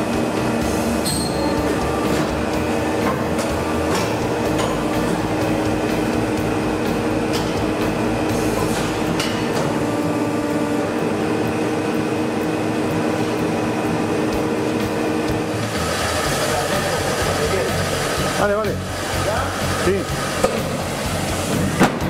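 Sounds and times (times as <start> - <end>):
tube-bending machine humming: 0.0 - 22.0.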